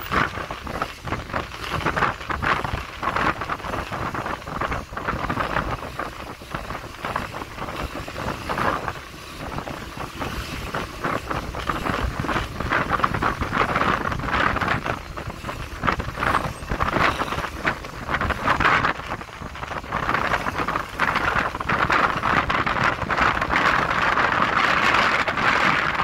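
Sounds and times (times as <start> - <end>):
motorcycle engine and road rumble: 0.0 - 26.0
wind rushing over microphone: 0.0 - 26.0.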